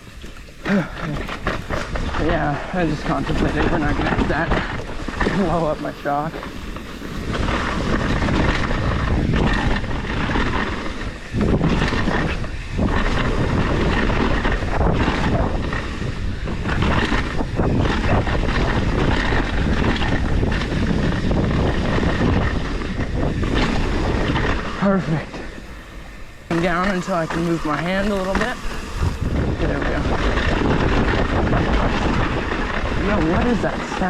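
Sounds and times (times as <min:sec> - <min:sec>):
bike rattling and clacking: 0:00.0 - 0:34.0
bike tyre noise: 0:00.0 - 0:34.0
wind noise on microphone: 0:00.0 - 0:34.0.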